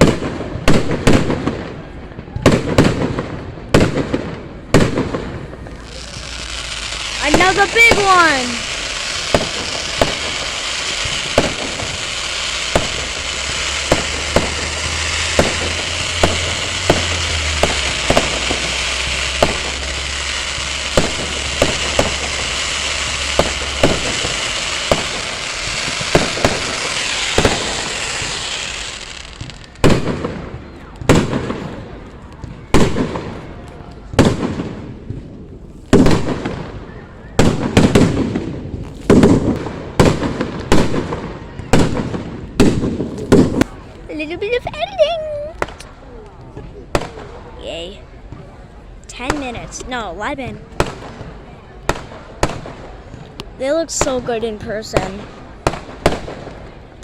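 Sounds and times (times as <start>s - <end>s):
loud firework bangs echoing: 0.0s - 44.0s, 46.6s - 57.0s
fireworks crackling and banging: 0.0s - 57.0s.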